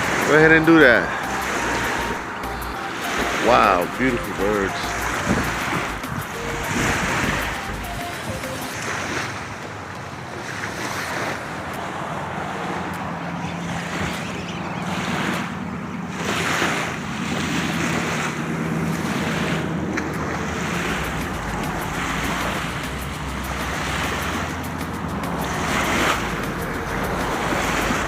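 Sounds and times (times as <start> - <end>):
wind gusting across microphone: 0.0 - 28.0.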